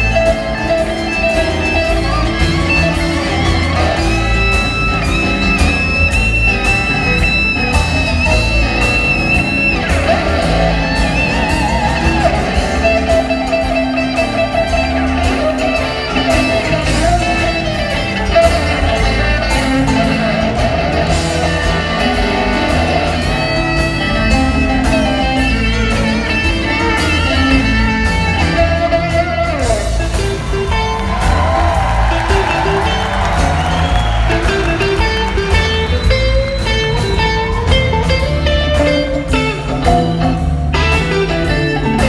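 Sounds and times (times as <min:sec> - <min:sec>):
blues band playing: 0:00.0 - 0:42.0
lead guitar bending lines: 0:00.0 - 0:42.0.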